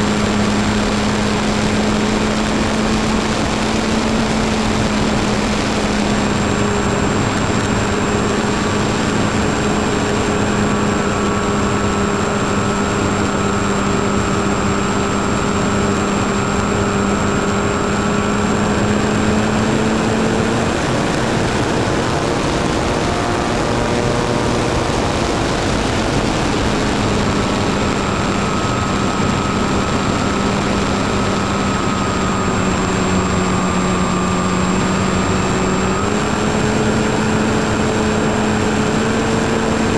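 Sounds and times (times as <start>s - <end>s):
model airplane motor hum: 0.0s - 39.9s
wind rushing: 0.0s - 39.9s.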